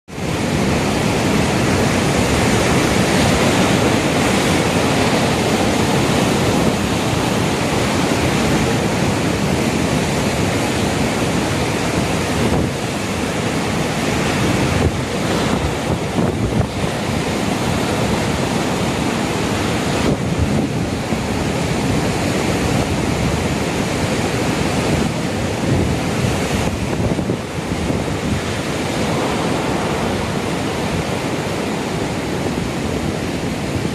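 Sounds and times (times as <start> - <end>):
heavy surf waves breaking: 0.1 - 33.9
wind blowing on microphone: 0.1 - 33.9.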